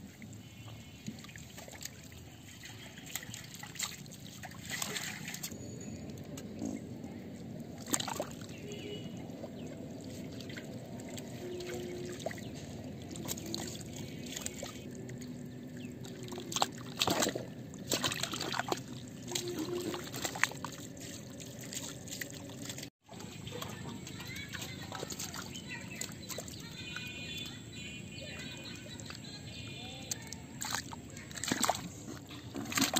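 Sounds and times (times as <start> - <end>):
water trickling and pouring: 0.0 - 27.6
fish splashing and flapping: 0.4 - 5.6, 6.4 - 27.6, 28.2 - 32.9.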